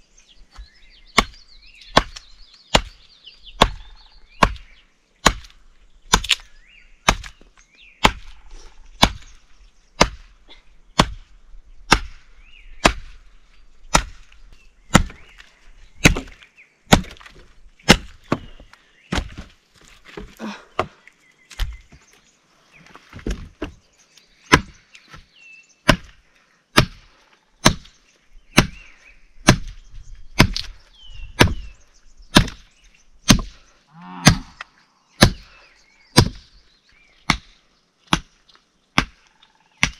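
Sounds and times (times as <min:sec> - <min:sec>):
firewood being chopped: 0:00.5 - 0:09.4, 0:10.0 - 0:10.4, 0:11.0 - 0:22.0, 0:22.9 - 0:23.8, 0:24.5 - 0:33.6, 0:34.2 - 0:34.6, 0:35.2 - 0:35.5, 0:36.1 - 0:36.5, 0:37.2 - 0:39.9.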